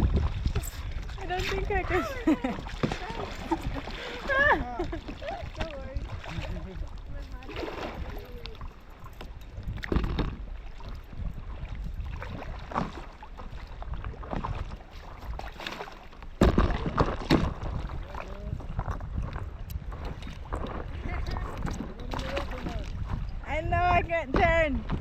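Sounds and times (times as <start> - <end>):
wind on microphone: 0.0 - 15.6, 16.2 - 25.0
paddle strokes splashing water: 0.0 - 25.0.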